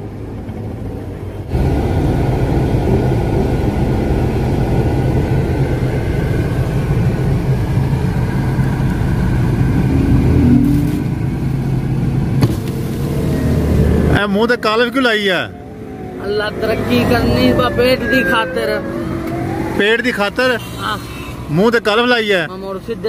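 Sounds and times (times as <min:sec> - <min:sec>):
car interior road rumble: 0:00.0 - 0:22.0
passing road traffic: 0:00.0 - 0:23.0.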